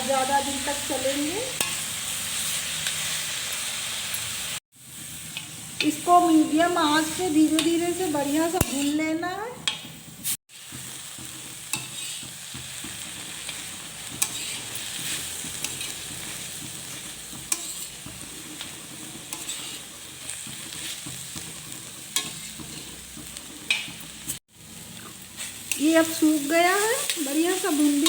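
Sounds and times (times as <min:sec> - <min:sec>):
paste sizzling in a pan: 0:00.0 - 0:28.0.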